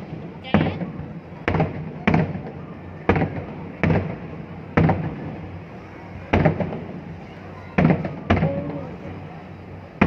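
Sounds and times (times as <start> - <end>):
fireworks bangs with rumbling echo: 0.0 - 10.0.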